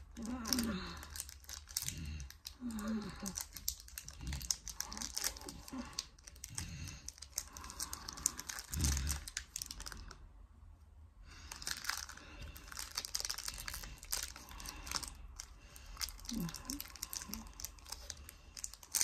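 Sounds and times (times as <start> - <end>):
foil packet crinkling: 0.0 - 10.2, 11.4 - 19.0.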